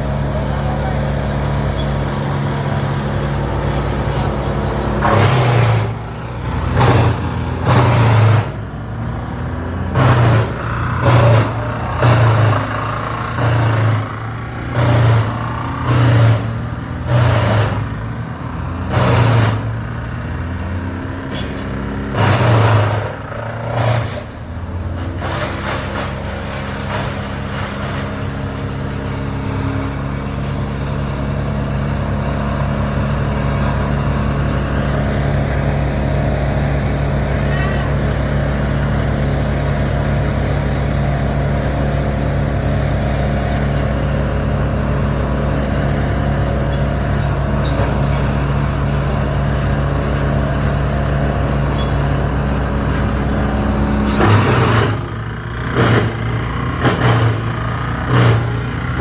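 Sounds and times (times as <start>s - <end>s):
engine running with surges: 0.0s - 59.0s.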